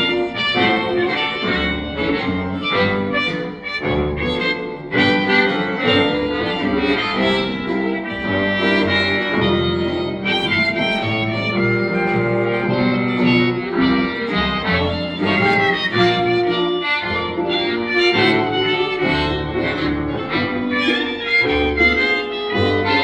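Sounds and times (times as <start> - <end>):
old-time jazz band music: 0.0 - 23.0.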